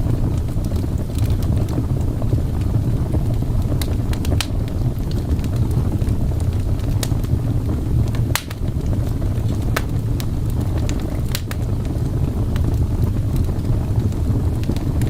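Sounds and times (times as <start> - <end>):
fireplace crackling: 0.0 - 15.0
steady low rumble: 0.0 - 15.0.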